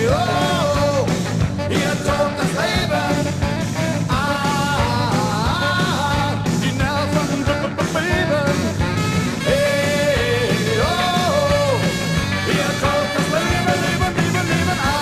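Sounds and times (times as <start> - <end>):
new wave rock song: 0.0 - 15.0.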